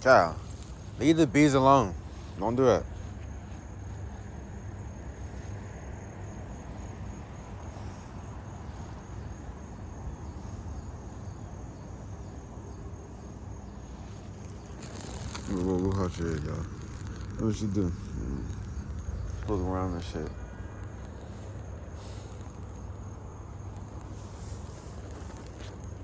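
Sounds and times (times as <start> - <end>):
crickets chirping: 0.0 - 26.0
low outdoor rumble: 0.0 - 26.0.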